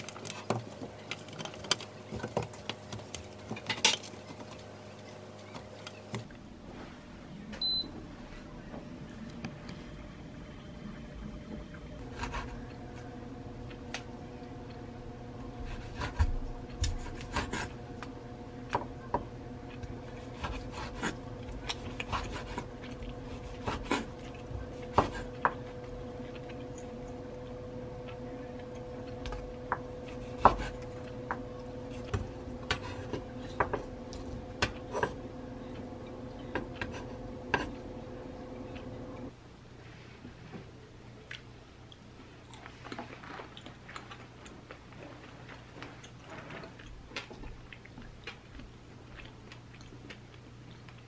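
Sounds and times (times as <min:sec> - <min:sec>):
low hum: 0:00.0 - 0:42.3.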